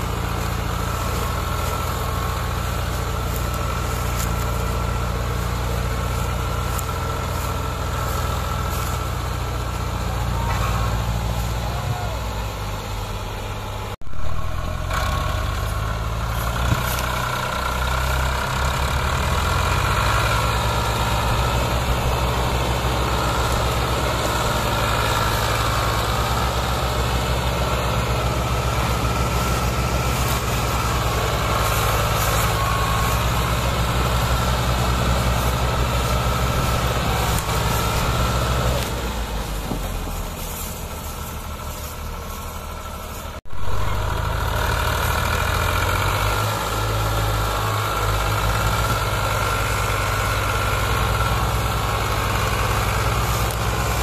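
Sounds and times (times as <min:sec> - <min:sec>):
tractor engine under heavy load: 0:00.0 - 0:54.0.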